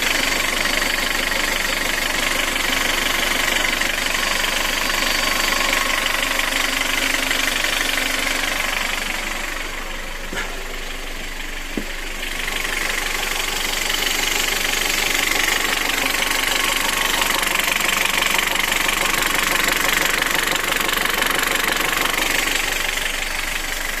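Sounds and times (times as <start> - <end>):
engine running with a knock: 0.0 - 24.0.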